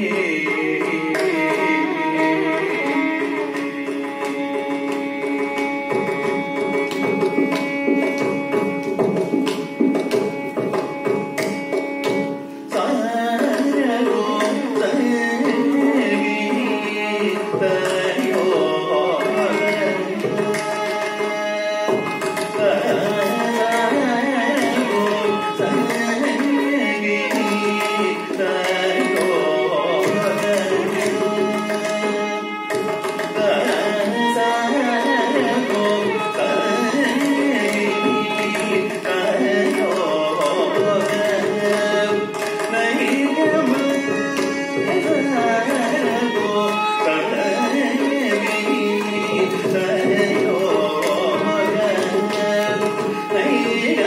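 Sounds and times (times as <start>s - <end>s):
man singing: 0.0s - 4.7s, 12.7s - 20.9s, 22.0s - 32.4s, 33.1s - 54.0s
mridangam strokes: 0.0s - 54.0s
violin: 0.0s - 54.0s.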